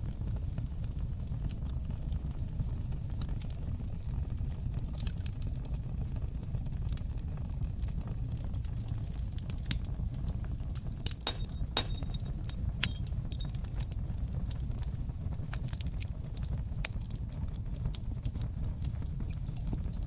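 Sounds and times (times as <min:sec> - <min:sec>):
fire crackling and popping: 0:00.0 - 0:20.0
fire rumbling in fireplace: 0:00.0 - 0:20.0.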